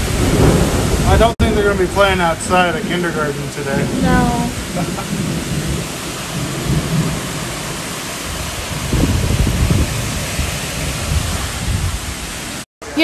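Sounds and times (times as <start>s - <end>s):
heavy rain: 0.0s - 13.0s
strong wind gusting: 0.0s - 13.0s.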